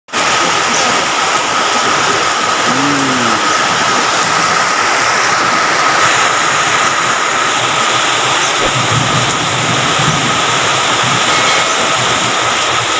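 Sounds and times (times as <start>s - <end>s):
heavy rain pouring: 0.1s - 12.9s.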